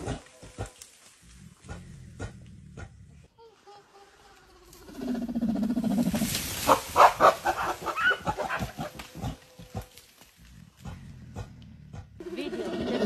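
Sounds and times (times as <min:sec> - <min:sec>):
gorillas grunting: 0:00.0 - 0:03.3, 0:04.1 - 0:13.0.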